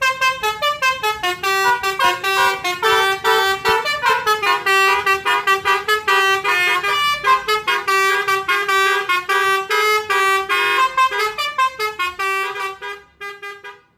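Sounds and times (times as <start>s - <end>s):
multi-tone bus horn tune: 0.0s - 13.9s.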